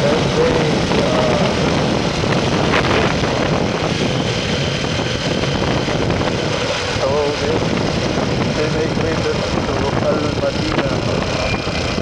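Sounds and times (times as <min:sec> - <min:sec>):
motorcycle road noise: 0:00.0 - 0:12.0
wind rush on microphone: 0:00.0 - 0:12.0.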